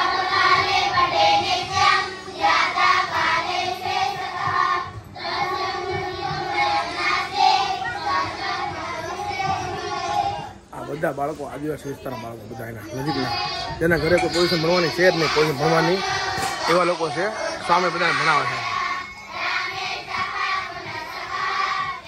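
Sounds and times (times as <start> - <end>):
children singing together: 0.0 - 10.7, 12.9 - 22.0.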